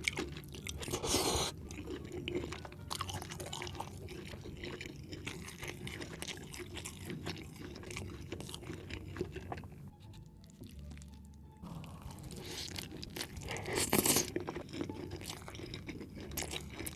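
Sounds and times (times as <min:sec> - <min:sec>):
wet chewing with mouth clicks: 0:00.0 - 0:16.9.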